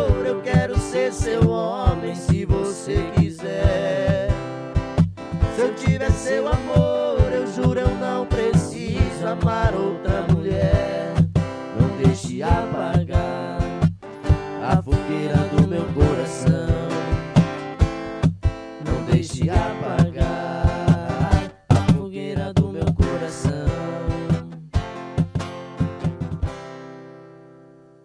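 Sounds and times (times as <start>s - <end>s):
cajon beat: 0.0s - 26.8s
acoustic guitar strumming: 0.0s - 28.0s.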